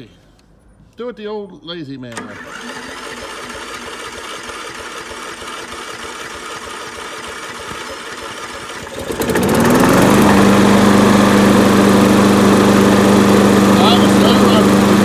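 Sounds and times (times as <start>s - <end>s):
electric starter cranking engine: 2.1s - 15.0s
mower engine running: 2.1s - 15.0s.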